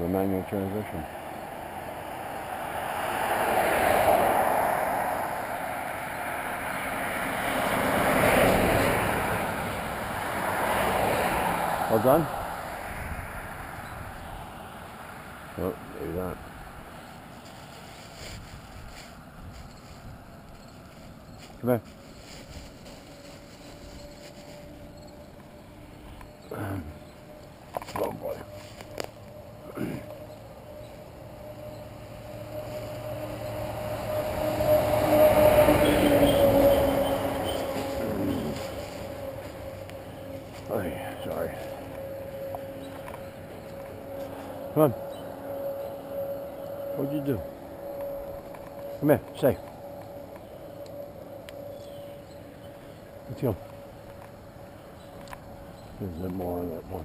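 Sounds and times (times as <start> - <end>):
car passing: 0.0 - 57.0
engine droning: 0.0 - 57.0.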